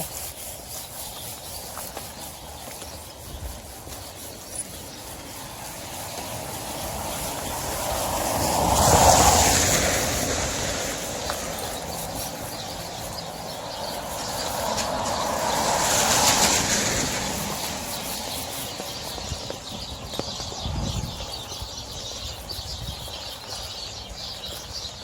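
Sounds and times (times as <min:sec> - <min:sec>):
vehicle tyres hissing on wet road: 0:00.0 - 0:20.6.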